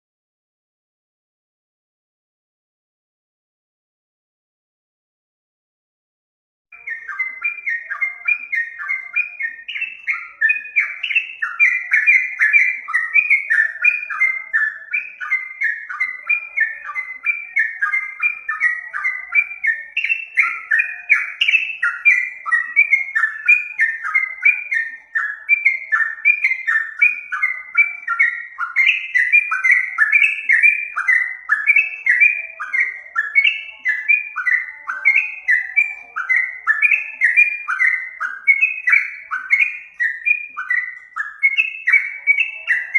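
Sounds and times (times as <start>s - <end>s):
songbird chirping rapidly: 6.8s - 42.9s.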